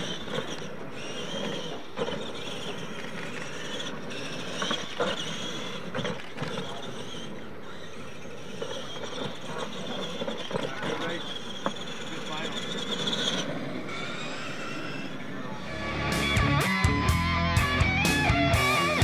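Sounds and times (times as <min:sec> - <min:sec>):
toy truck motor and gear whine: 0:00.0 - 0:19.0.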